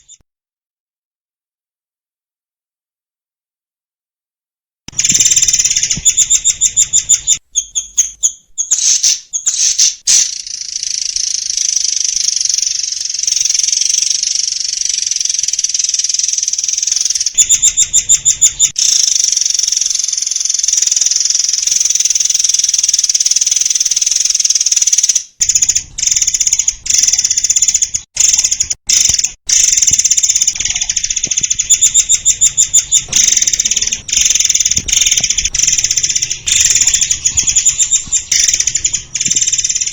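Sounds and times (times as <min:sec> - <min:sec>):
bird singing rapid trills: 0:04.9 - 0:39.9.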